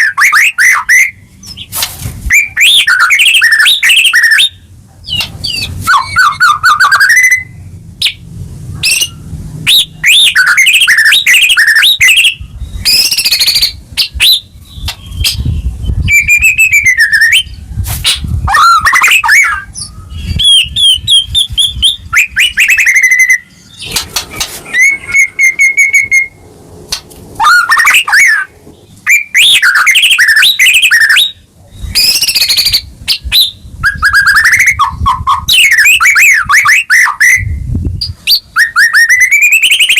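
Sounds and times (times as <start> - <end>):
bird singing whistles and trills: 0.0 - 1.7, 2.3 - 8.2, 8.8 - 26.4, 27.4 - 39.9.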